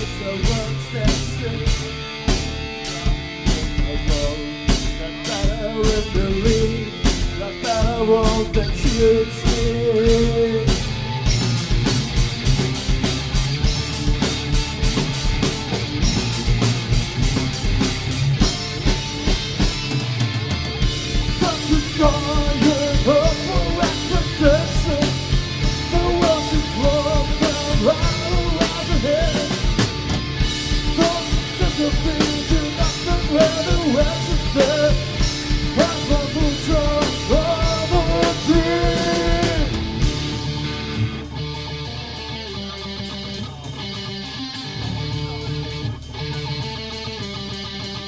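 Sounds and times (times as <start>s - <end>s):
steady drum beat: 0.0s - 41.5s
heavy distorted guitars: 0.0s - 48.0s.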